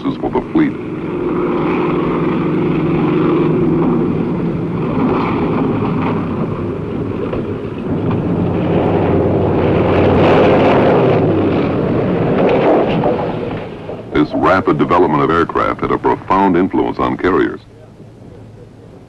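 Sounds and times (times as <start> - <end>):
rushing wind noise: 0.0 - 16.6
propeller aircraft engine drone: 0.0 - 19.0.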